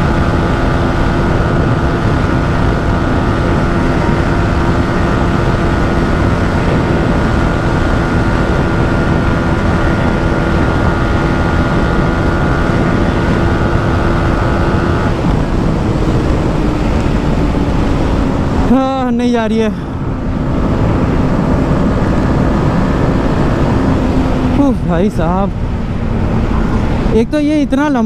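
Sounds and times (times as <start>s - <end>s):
motorcycle engine at full throttle: 0.0s - 28.0s
wind rush: 0.0s - 28.0s.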